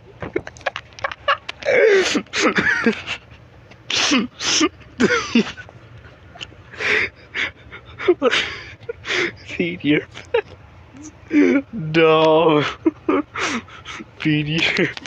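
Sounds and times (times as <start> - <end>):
man laughing hard: 0.3 - 3.3, 3.9 - 11.8, 12.4 - 15.0.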